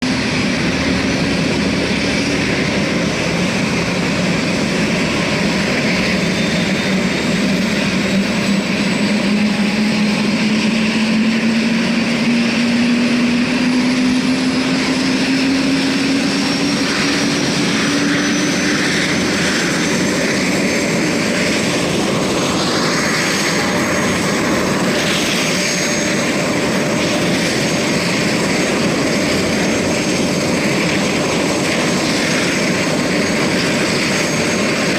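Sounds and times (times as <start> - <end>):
helicopter turbine and rotor: 0.0 - 34.9.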